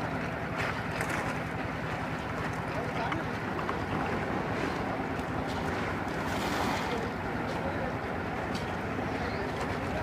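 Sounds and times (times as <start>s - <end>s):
constant wash of noise: 0.0s - 10.0s
low mechanical rumble: 0.0s - 10.0s.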